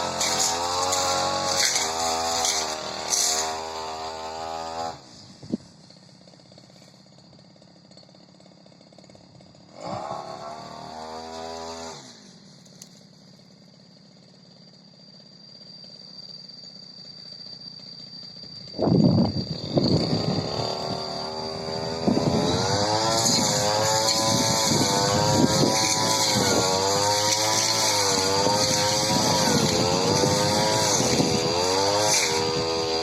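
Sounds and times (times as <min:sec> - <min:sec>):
brush cutter engine revving: 0:00.0 - 0:13.0, 0:18.5 - 0:33.0.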